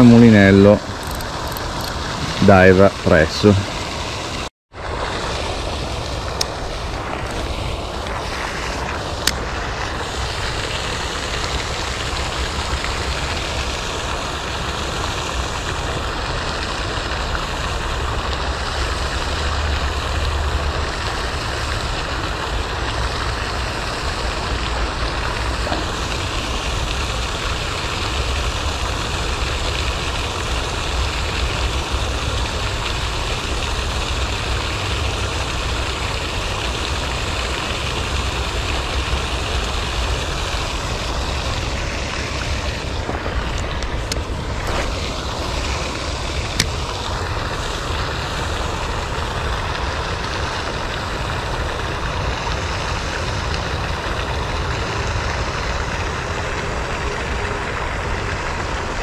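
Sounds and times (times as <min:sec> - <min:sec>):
fountain splashing: 0:00.0 - 0:59.0.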